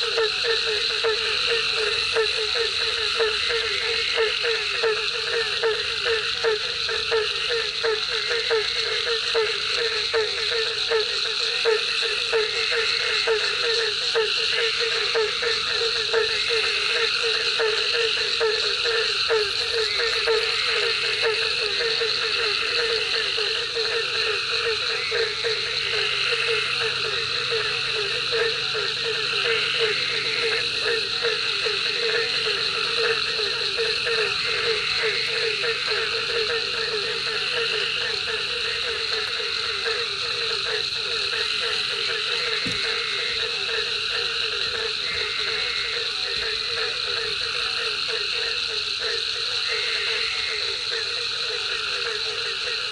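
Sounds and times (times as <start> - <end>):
frog croaking: 0.0 - 52.9
high insect drone: 0.0 - 52.9
high-pitched frog trilling: 0.0 - 52.9.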